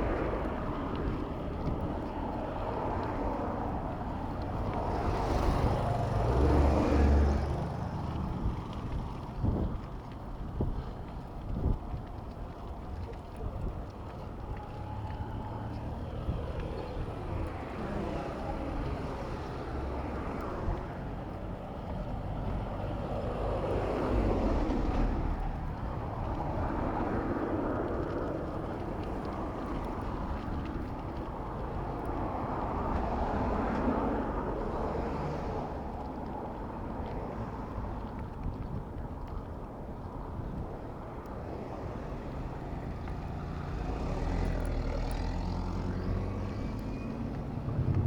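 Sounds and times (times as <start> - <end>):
wind noise on microphone: 0.0 - 44.5, 46.1 - 48.0
road traffic: 0.0 - 48.0.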